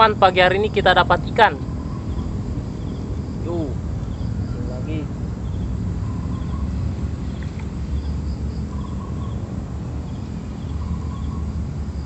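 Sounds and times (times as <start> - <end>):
birds chirping: 0.0 - 12.0
steady low rumble: 0.0 - 12.0.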